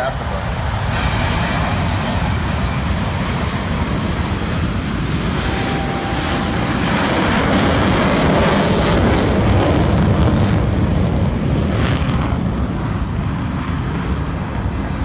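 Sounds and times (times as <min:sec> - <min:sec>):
jets taking off in afterburner: 0:00.0 - 0:14.1.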